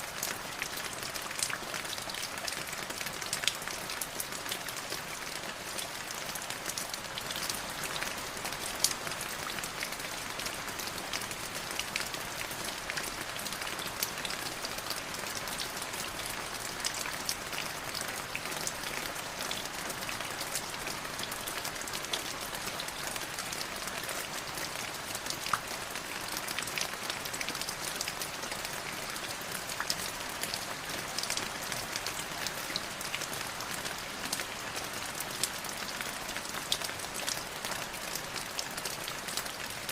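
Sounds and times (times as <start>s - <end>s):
raindrops pattering on a surface: 0.1s - 39.9s.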